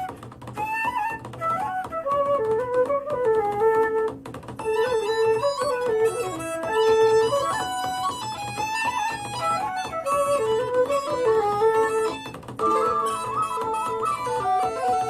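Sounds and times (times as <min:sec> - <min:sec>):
guitar and fiddle music: 0:00.0 - 0:15.0.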